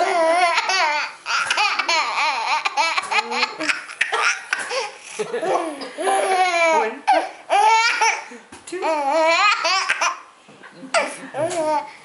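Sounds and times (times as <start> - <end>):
baby laughing: 0.0 - 10.3.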